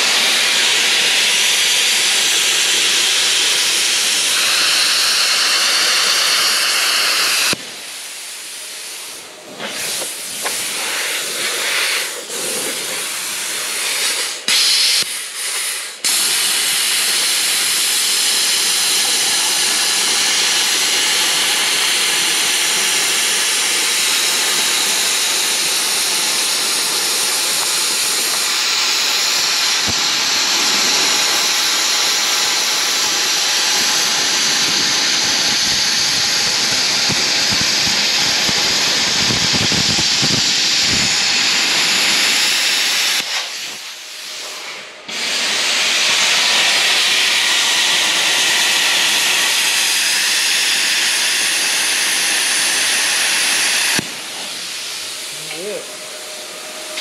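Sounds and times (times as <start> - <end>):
plasma cutter hissing: 0.0 - 57.0.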